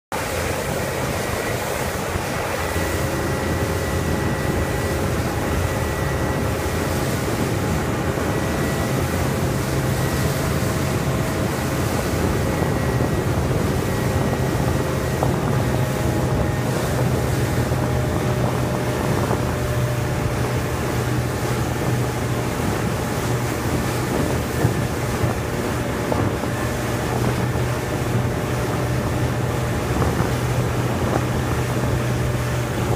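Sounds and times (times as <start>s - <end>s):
motorboat engine humming: 0.1s - 32.9s
water rushing past hull: 0.1s - 32.9s
wind buffeting microphone: 0.2s - 32.9s.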